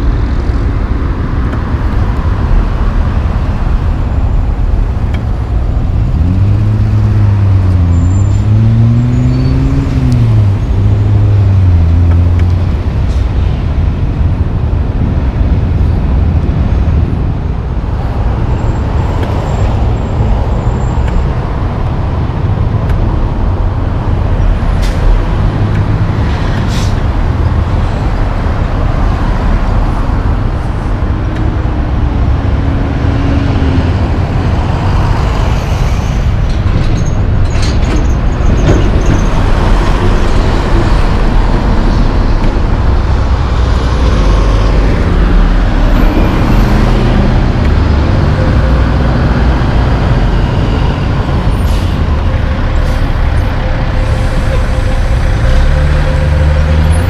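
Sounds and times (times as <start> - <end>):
traffic engine rumble: 0.0 - 57.0.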